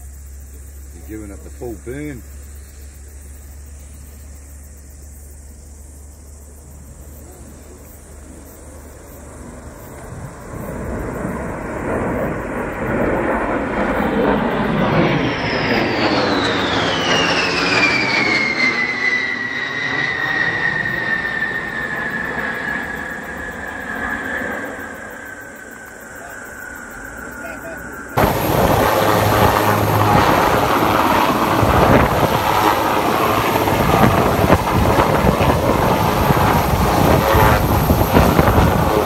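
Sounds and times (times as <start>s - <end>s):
high whine dropping in pitch: 0.0s - 39.0s
jet engines flying over: 0.0s - 39.0s.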